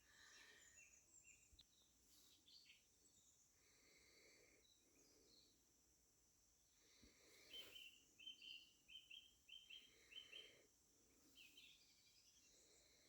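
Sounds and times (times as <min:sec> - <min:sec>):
faint birdsong chirps and whistles: 0:00.0 - 0:05.8, 0:06.7 - 0:13.0.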